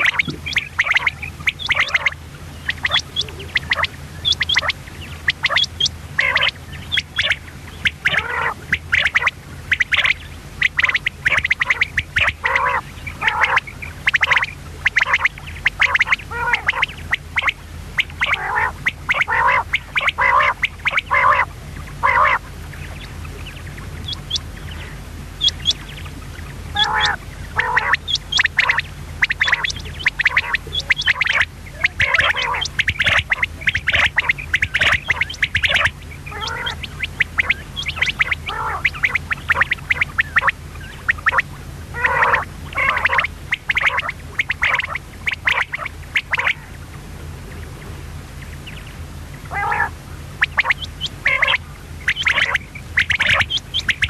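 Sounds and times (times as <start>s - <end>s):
quail calling: 0.0s - 46.8s, 48.6s - 54.0s
steady low hum: 0.0s - 54.0s.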